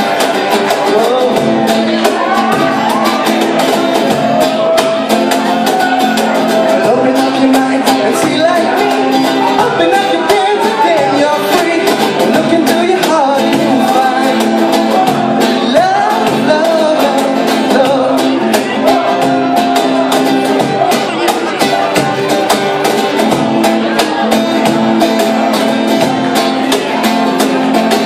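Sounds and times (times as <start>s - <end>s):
person singing over guitar and beat: 0.0s - 28.0s.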